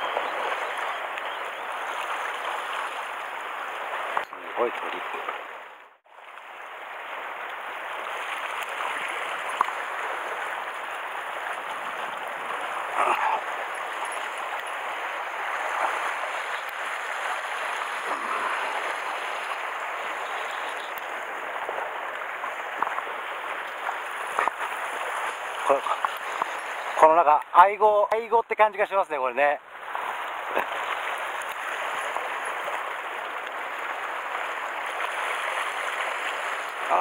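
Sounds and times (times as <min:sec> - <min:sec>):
sea water sloshing around rocks: 0:00.0 - 0:27.0, 0:29.7 - 0:37.0
water splashes: 0:00.0 - 0:37.0.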